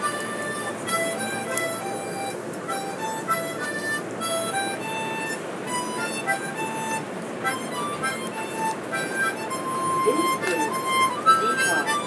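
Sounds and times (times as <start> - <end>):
harmonica melody: 0.0 - 12.0
subway car rumble: 0.0 - 12.0.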